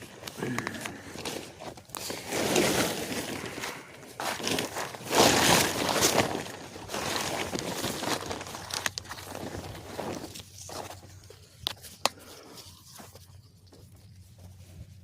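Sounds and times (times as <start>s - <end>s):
tarp rustling and crinkling: 0.0s - 15.0s.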